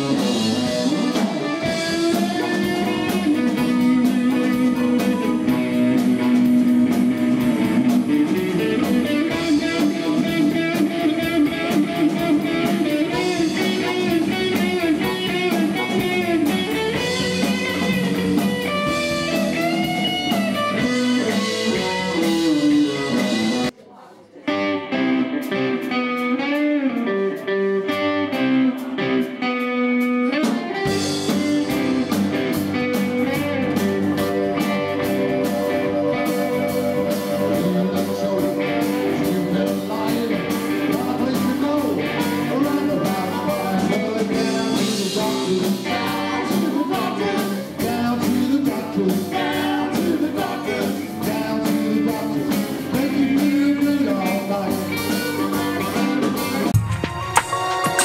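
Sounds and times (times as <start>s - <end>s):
electric guitars: 0.0s - 23.8s, 24.4s - 58.0s
live blues band playing: 0.0s - 23.8s, 24.5s - 58.0s
person singing: 0.0s - 25.9s, 30.2s - 56.8s.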